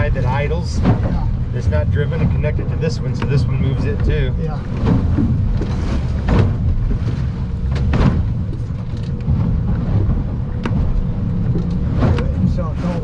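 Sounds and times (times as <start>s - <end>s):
boat engine rumble: 0.0s - 13.0s
water striking boat hull: 0.0s - 13.0s.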